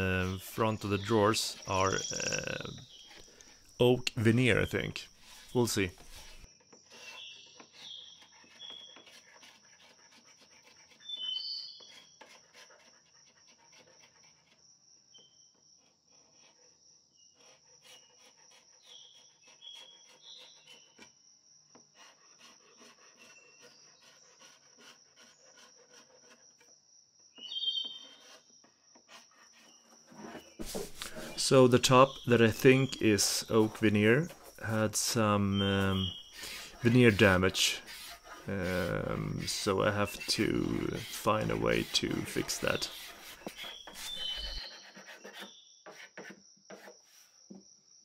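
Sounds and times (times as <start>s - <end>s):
paint scraper scraping wood: 0.0s - 14.6s, 15.2s - 21.2s, 21.8s - 26.7s, 27.4s - 47.3s.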